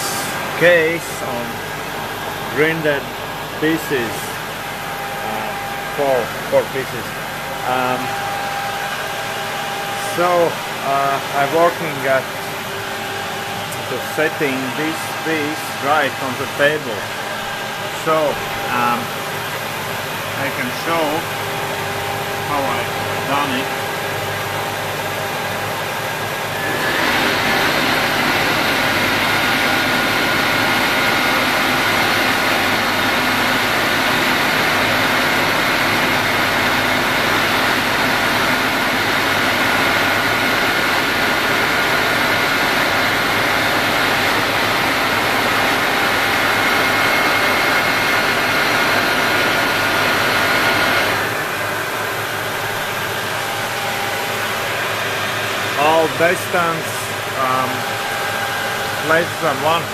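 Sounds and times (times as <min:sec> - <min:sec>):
low machine hum: 0:00.0 - 0:59.9
machine feed drive whining: 0:00.0 - 0:59.9.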